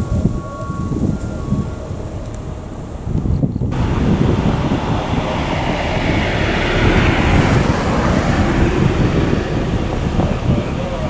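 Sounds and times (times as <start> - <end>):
railway car rumbling: 0.0 - 11.0
wind buffeting microphone: 0.0 - 11.0.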